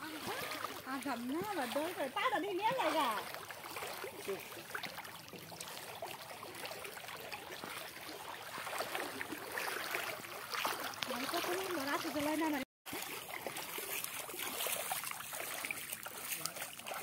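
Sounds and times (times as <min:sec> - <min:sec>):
floodwater sloshing and trickling: 0:00.0 - 0:17.0
small water splashes: 0:00.0 - 0:17.0.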